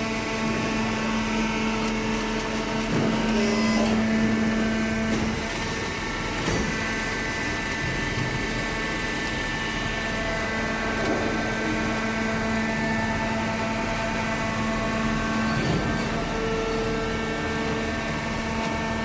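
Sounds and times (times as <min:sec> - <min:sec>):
hydraulic baler motor humming: 0:00.0 - 0:19.0.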